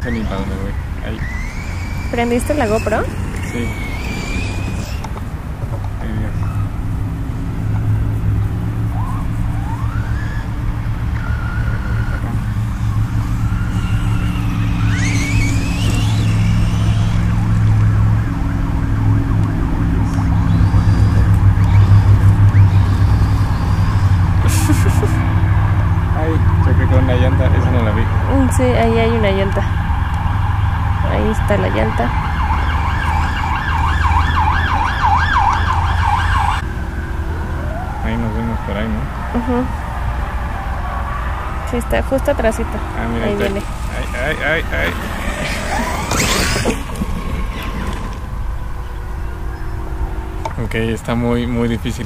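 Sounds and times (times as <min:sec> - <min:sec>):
steady low hum: 0:00.0 - 0:35.9, 0:36.6 - 0:52.0
electric motor whining: 0:00.0 - 0:36.7, 0:41.6 - 0:50.6
siren wailing: 0:00.0 - 0:52.0.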